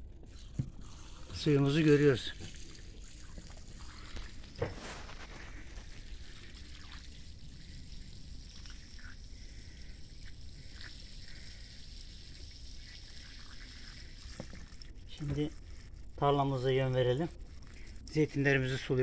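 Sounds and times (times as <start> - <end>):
water pouring from pipe onto mud: 0.0 - 19.0.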